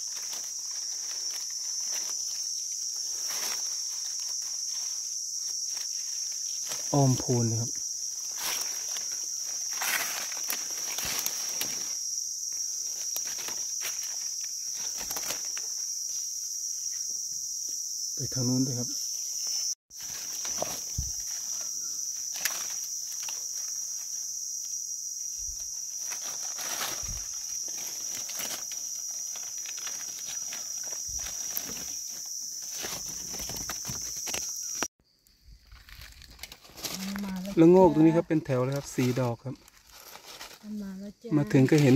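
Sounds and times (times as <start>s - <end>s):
rustling of dry leaf litter: 0.0s - 16.3s, 19.6s - 41.9s
high-pitched insect drone: 0.0s - 35.9s, 36.8s - 41.9s.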